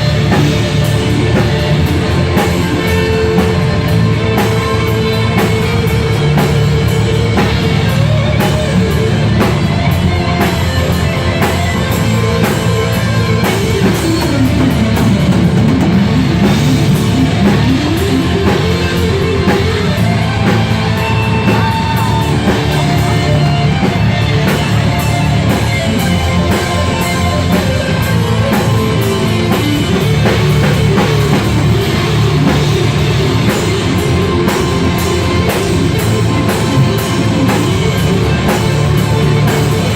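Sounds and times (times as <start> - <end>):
drum kit: 0.0 - 39.9
electric guitar: 0.0 - 39.9
live rock band playing: 0.0 - 39.9.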